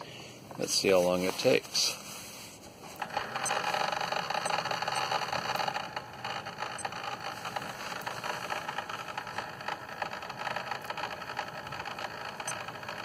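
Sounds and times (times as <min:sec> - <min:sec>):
coffee machine pump rattly buzz: 0:00.0 - 0:13.0.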